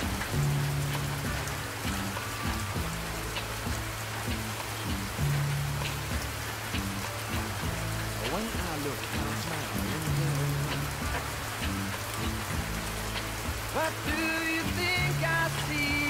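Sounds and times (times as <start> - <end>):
rain-like patter and hiss: 0.0 - 16.0
slow music with sliding notes: 0.0 - 16.0.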